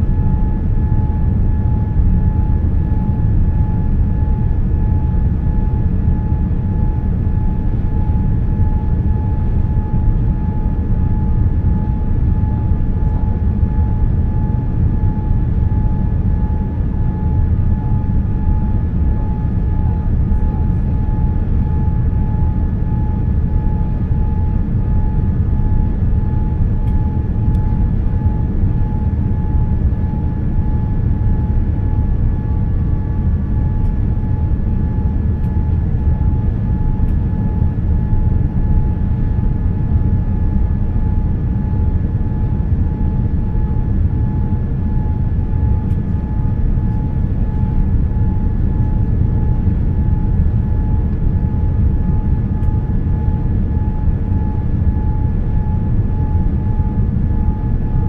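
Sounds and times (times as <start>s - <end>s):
low rumble of engines and airflow: 0.0s - 58.0s
thin steady whine: 0.0s - 58.0s.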